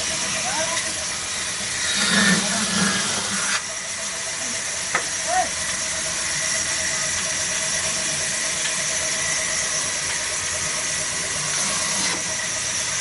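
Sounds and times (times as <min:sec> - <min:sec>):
diesel engine running: 0:00.0 - 0:13.0
saw high whine and hiss: 0:00.0 - 0:13.0.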